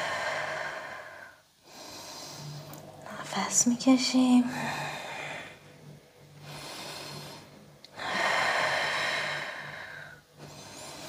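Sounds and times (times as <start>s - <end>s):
person breathing slowly: 0.0s - 2.9s, 4.5s - 11.0s.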